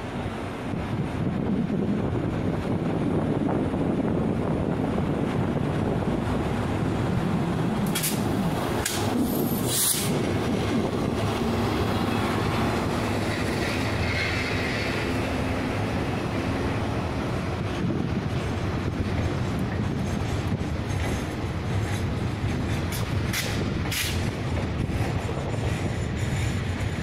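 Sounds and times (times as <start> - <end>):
freight train rumble: 0.0 - 27.0
wheels clattering over rail joints: 5.2 - 27.0.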